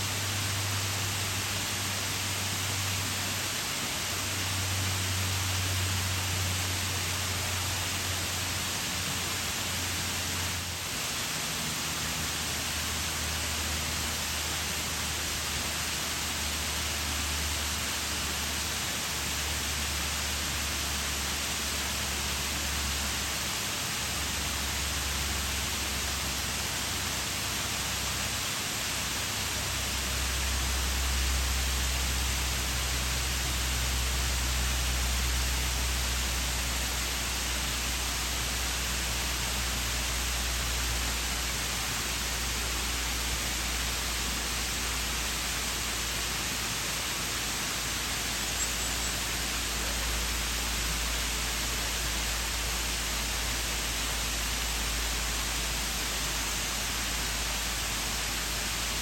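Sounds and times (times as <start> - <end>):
waterfall pouring: 0.0 - 59.0.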